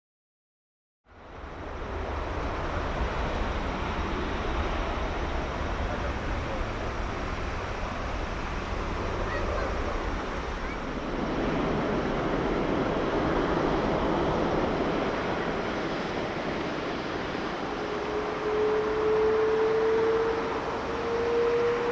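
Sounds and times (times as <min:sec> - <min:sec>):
jet engines roaring: 0:01.2 - 0:21.9.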